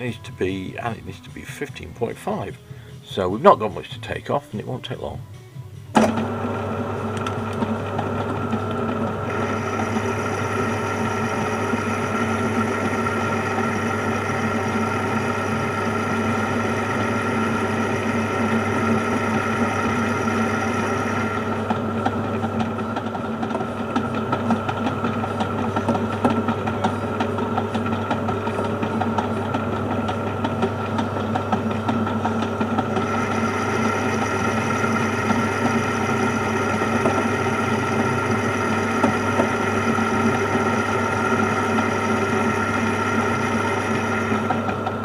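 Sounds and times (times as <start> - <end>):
metal lathe running: 6.0 - 45.0.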